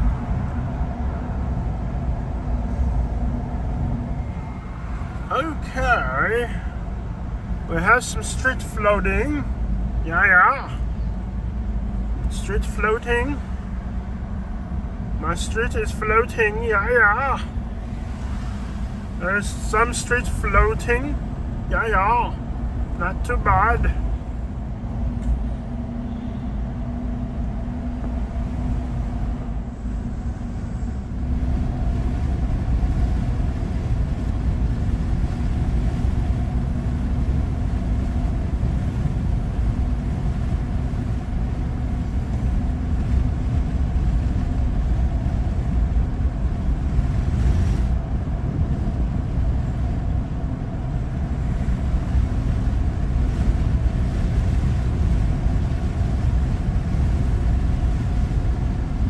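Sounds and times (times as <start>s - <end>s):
car interior road rumble: 0.0s - 59.0s
faint steady hum: 0.0s - 59.0s.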